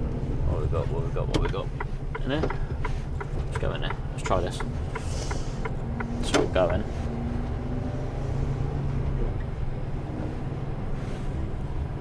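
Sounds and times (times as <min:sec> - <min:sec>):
lorry diesel engine running: 0:00.0 - 0:12.0.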